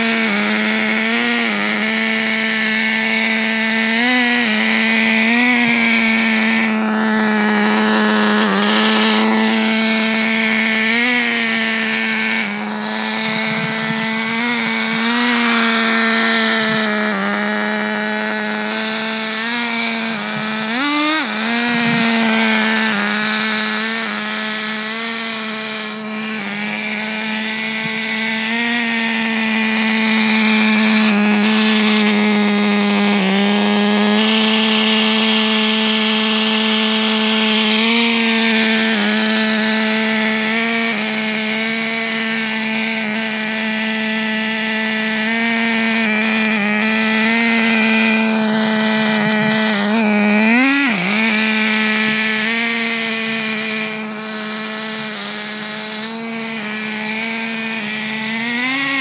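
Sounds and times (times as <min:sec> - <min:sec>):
model car engine buzzing: 0:00.0 - 0:59.0.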